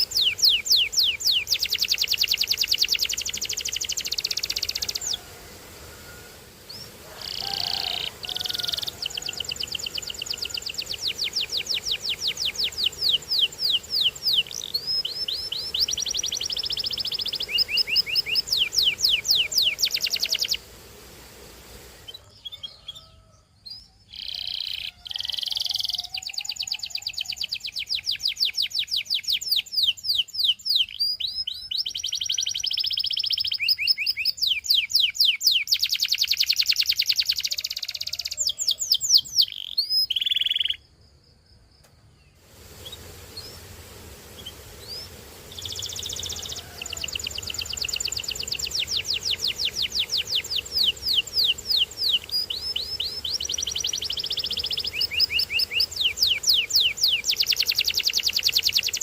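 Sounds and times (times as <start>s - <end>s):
canary singing trills: 0.0s - 20.7s, 21.9s - 40.9s, 44.3s - 59.0s.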